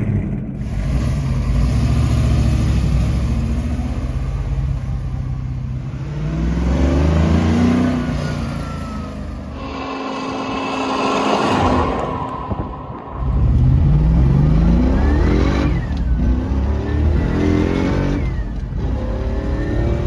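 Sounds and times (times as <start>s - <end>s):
car engine accelerating through gears: 0.0s - 20.0s.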